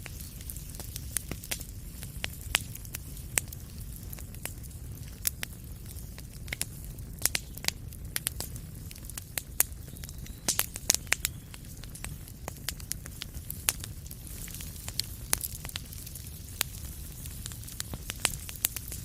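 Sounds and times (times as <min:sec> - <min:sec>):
fire low rumble: 0:00.0 - 0:19.0
wood fire crackling: 0:00.0 - 0:19.0.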